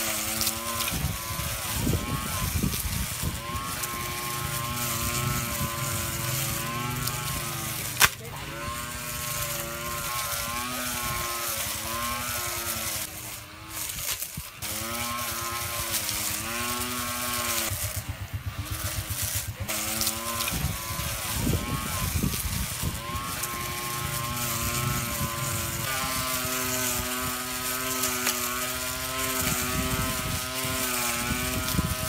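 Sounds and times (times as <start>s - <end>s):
trimmer motor whining: 0.0s - 32.0s.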